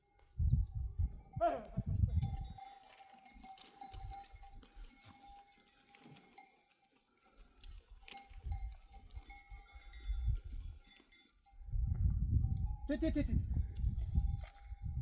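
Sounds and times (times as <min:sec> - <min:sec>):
sheep bells clinking: 0:00.0 - 0:15.0.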